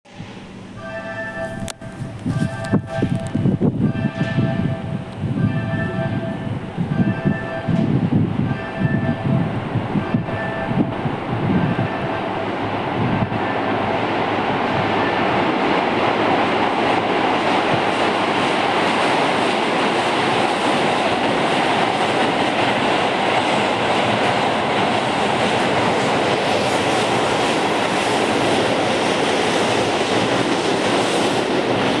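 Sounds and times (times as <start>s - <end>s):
train wheels rumbling on rail: 0.1s - 32.0s.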